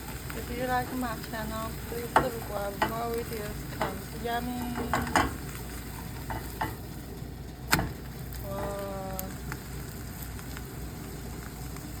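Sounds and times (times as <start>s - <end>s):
eggs sizzling in a pan: 0.0s - 12.0s.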